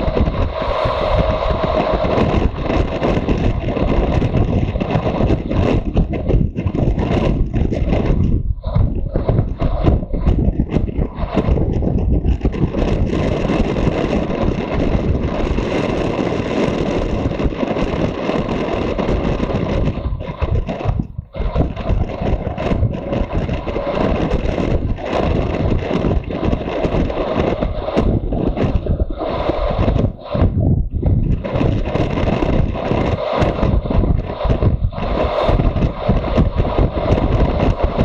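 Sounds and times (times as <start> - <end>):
wind rushing over microphone: 0.0 - 38.0.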